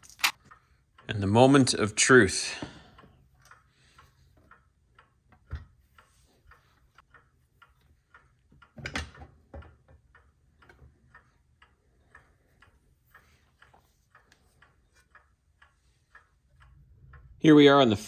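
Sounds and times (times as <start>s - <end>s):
faint clock ticking: 0.0s - 18.0s.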